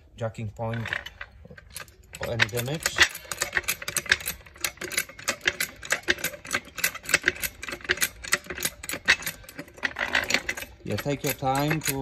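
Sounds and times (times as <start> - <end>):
trolley jack clicking: 0.8 - 12.0.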